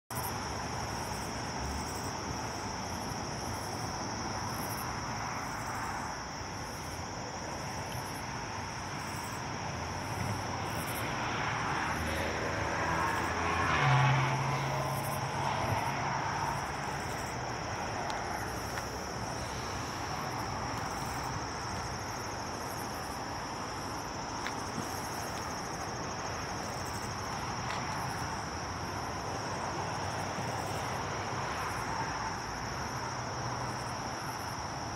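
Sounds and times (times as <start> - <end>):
night insects chirring: 0.1 - 34.9.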